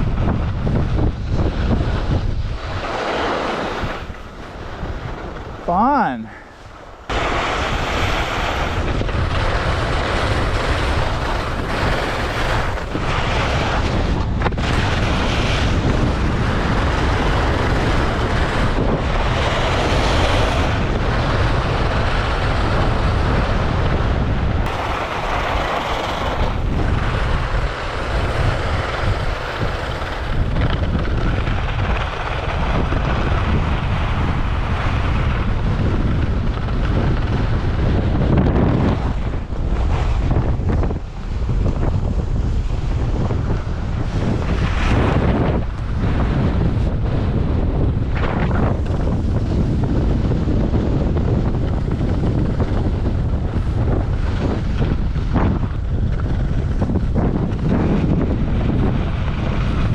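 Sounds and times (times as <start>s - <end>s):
wind buffeting a microphone: 0.0s - 59.9s.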